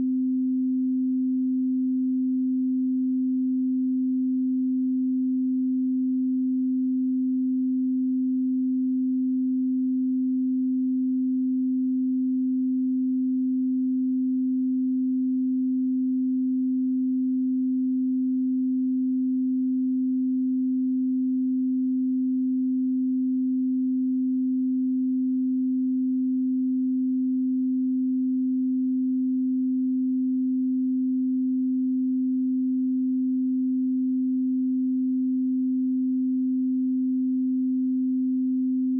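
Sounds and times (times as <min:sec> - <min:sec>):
steady sine tone: 0:00.0 - 0:38.9.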